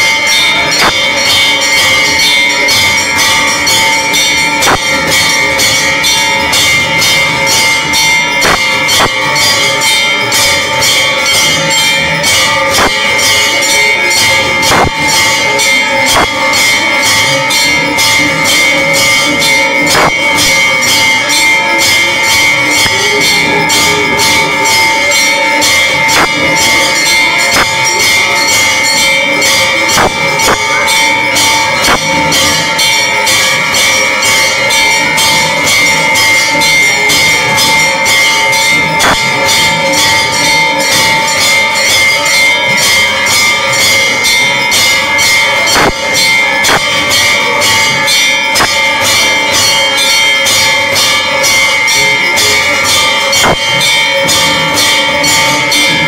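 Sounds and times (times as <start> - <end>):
bells ringing: 0.0 - 56.0
percussion strikes: 0.0 - 56.0.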